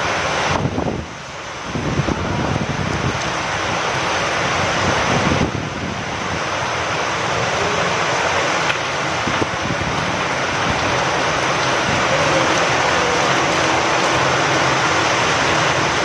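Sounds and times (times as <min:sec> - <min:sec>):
rain and wind rushing: 0:00.0 - 0:16.0.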